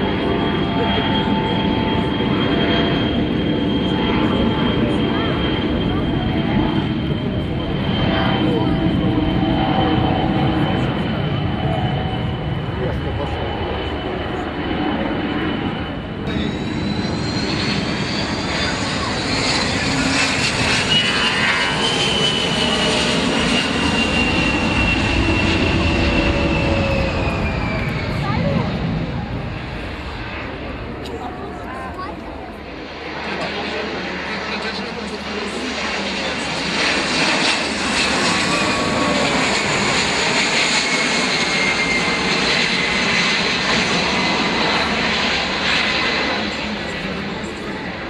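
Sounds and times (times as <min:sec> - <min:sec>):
aircraft engine whining: 0:00.0 - 0:48.0.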